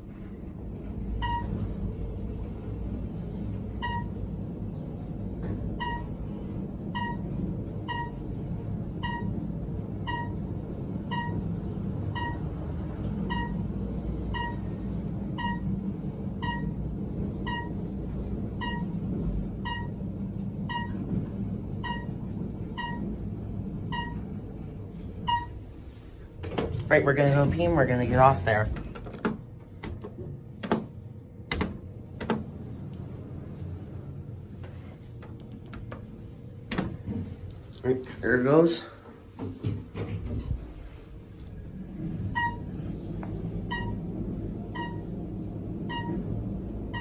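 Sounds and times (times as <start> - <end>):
elevator low rumble: 0.0 - 47.0.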